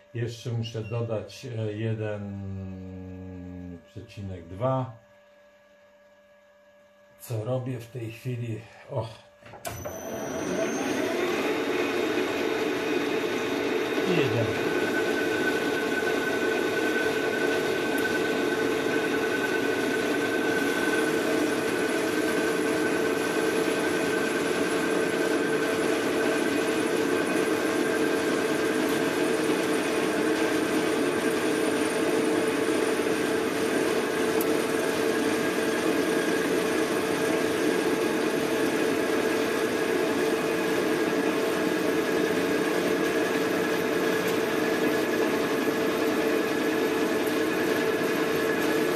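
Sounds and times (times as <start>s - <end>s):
metal lathe cutting: 9.7s - 48.9s.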